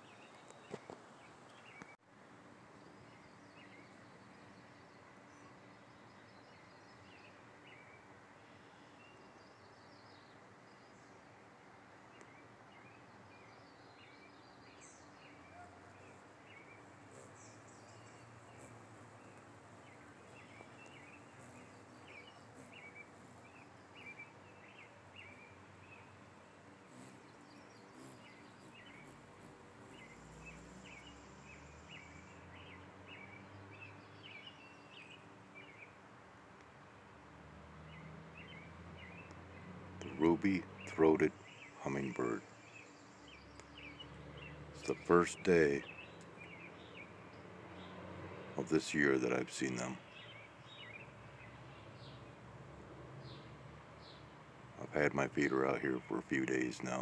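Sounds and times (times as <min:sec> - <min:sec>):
small birds chirping: 0:00.0 - 0:02.0, 0:02.6 - 0:37.0, 0:37.8 - 0:57.0.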